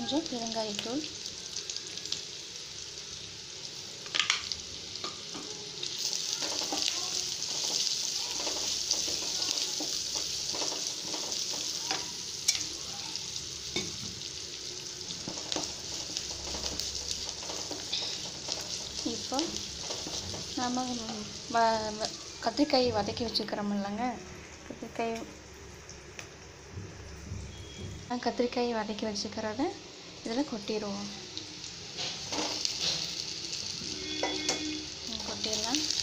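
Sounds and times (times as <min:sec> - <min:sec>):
onions sizzling in oil: 0:00.0 - 0:36.0.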